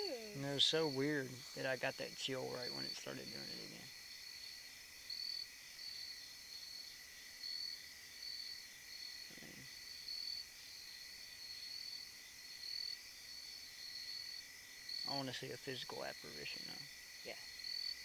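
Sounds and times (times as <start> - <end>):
insect chirping: 0.0 - 18.0
insects droning: 0.0 - 18.0.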